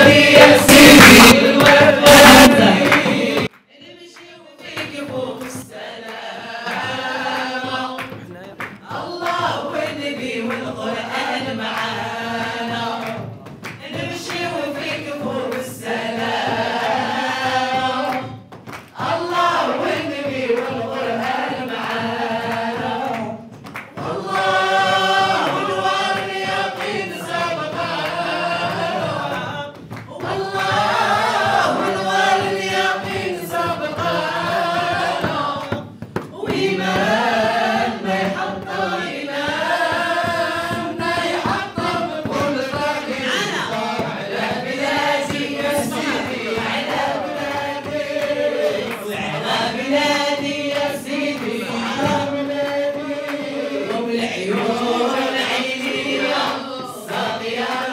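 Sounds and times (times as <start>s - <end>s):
group singing through microphones: 0.0s - 57.9s.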